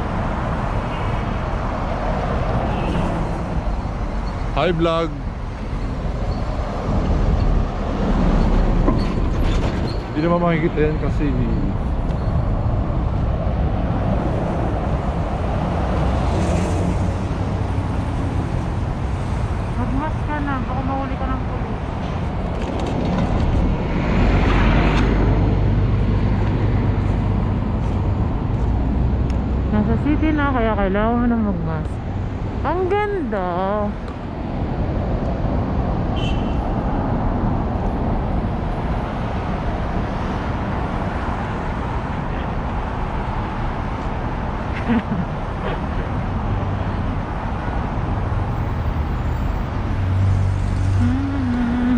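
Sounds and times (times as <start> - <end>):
road noise: 0.0 - 51.9
vehicle engine rumble: 0.0 - 51.9.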